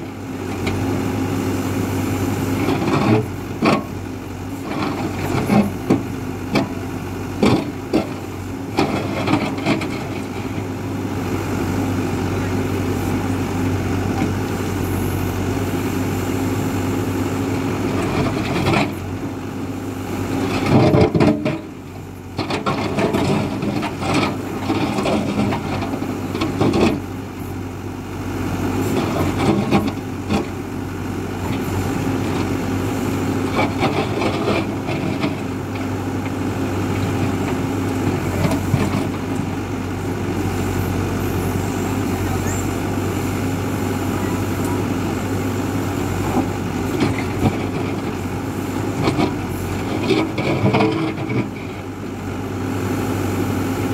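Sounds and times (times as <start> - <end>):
backhoe diesel engine running: 0.0 - 53.9.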